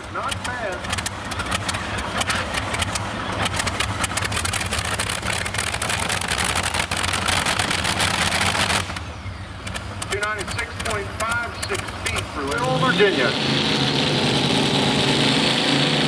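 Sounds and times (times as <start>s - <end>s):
tractor engine idling: 0.0s - 13.2s.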